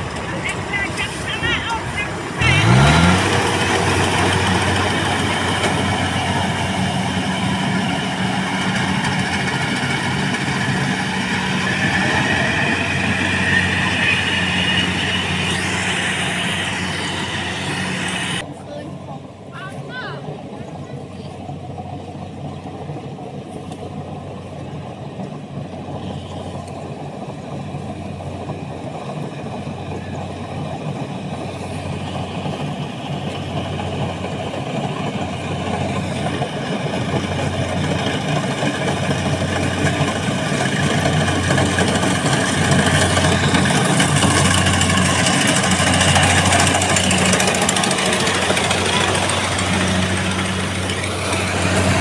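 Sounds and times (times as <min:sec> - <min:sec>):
threshing machine noise: 0:00.0 - 0:19.7, 0:25.8 - 0:52.0
diesel engine hum: 0:00.0 - 0:52.0.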